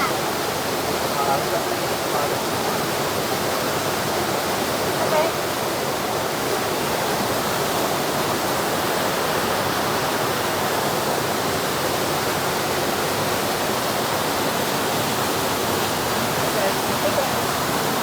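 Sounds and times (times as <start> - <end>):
waterfall pouring onto rocks: 0.0 - 18.0.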